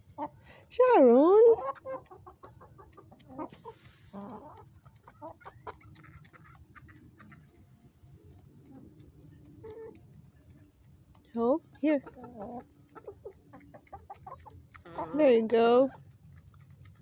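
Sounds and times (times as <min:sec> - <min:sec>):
hens clucking: 0:00.0 - 0:17.0
hens pecking grain: 0:00.0 - 0:17.0.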